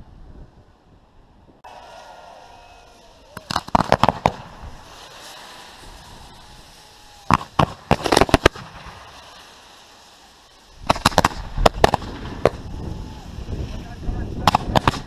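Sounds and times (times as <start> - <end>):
fireworks bangs: 1.6 - 15.0.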